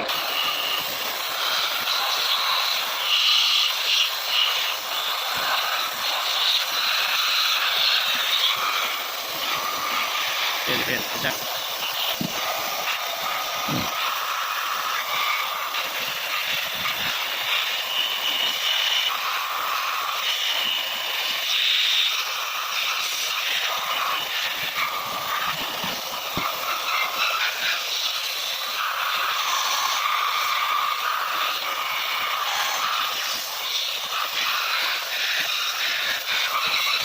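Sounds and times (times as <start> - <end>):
machinery hissing and whirring: 0.0 - 37.0.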